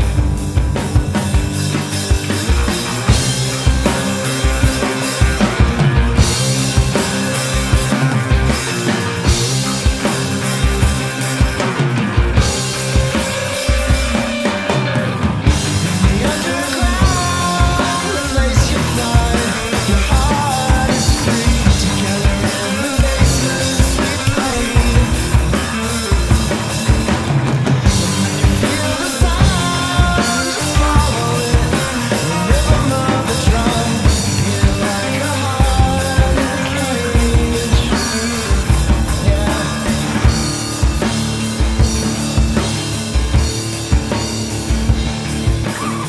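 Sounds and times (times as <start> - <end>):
drum kit beat: 0.0 - 46.0
electric guitar: 0.0 - 46.0
rock band playing: 0.0 - 46.0.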